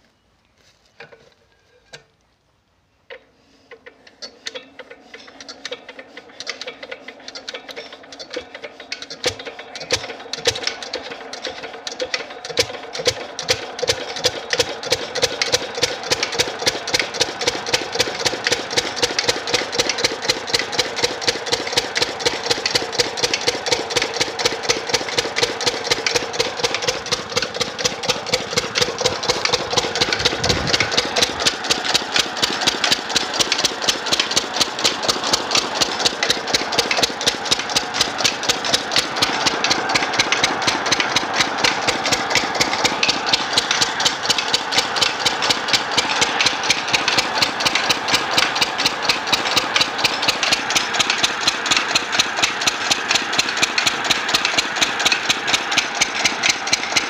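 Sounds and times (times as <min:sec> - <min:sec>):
diesel engine idling: 0:05.8 - 0:57.0.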